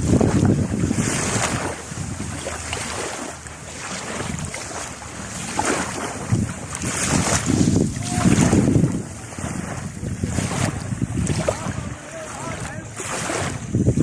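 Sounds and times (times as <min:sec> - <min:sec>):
sea waves washing ashore: 0:00.0 - 0:14.0
wind buffeting microphone: 0:00.0 - 0:14.0.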